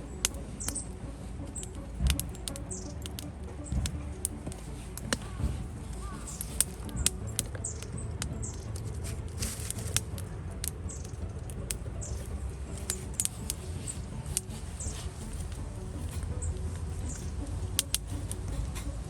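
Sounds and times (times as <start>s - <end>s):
campfire crackling: 0.0s - 19.0s
low rumble of flames: 0.0s - 19.0s
fire hissing: 0.2s - 18.6s.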